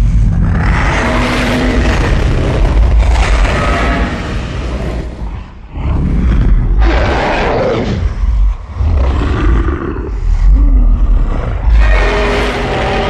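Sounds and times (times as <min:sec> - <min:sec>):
heavy low rumble: 0:00.0 - 0:13.0
monster roars and growls: 0:00.0 - 0:13.0.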